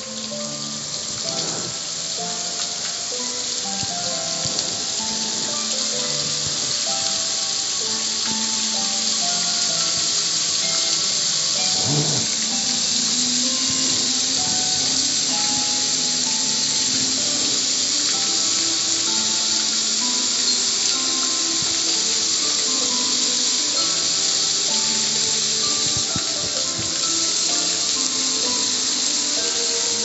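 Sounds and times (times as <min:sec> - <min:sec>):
hose spraying water on metal: 0:00.0 - 0:30.0
music playing: 0:00.0 - 0:30.0.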